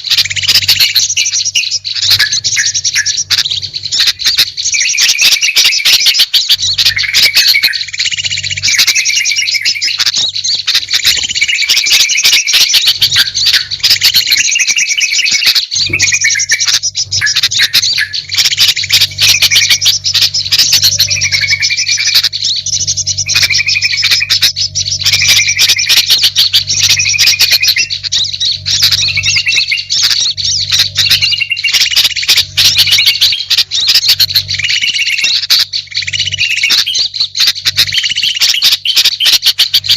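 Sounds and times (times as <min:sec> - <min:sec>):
steady low hum: 0:00.0 - 0:04.8, 0:06.4 - 0:14.6, 0:15.7 - 0:38.2
songbirds chirping and squawking: 0:00.0 - 0:39.9.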